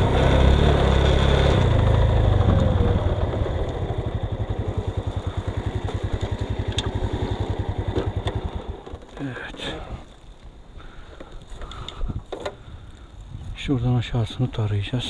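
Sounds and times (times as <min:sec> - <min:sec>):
vehicle engine idling: 0:00.0 - 0:13.2.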